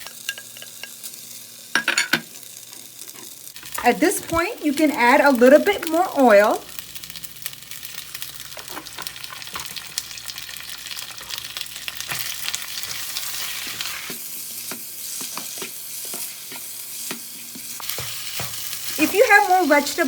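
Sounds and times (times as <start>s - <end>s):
rice sizzling in oil: 0.0s - 20.0s.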